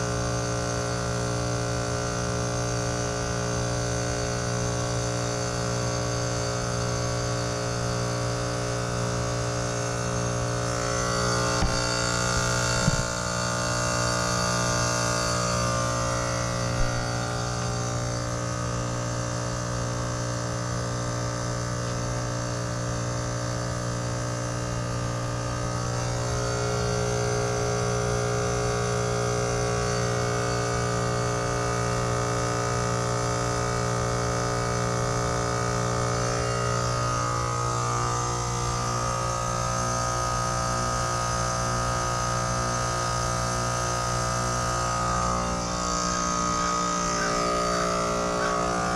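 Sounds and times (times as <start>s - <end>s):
heat pump compressor humming: 0.0s - 48.9s.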